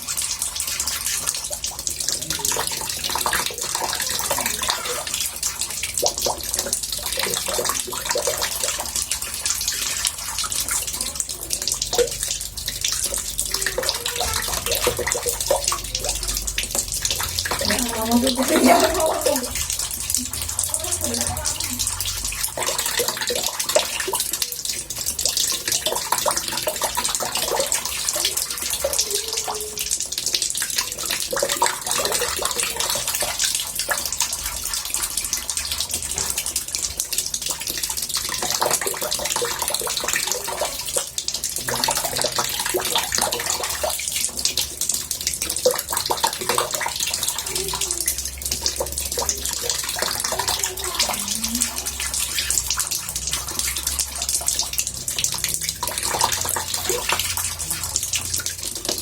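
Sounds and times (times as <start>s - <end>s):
tap water running into bathtub: 0.0s - 59.0s.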